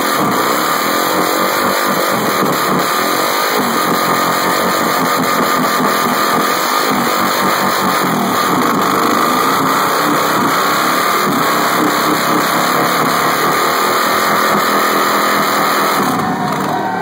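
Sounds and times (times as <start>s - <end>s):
motorcycle engine at high revs: 0.0s - 17.0s
rear tire spinning: 0.0s - 17.0s.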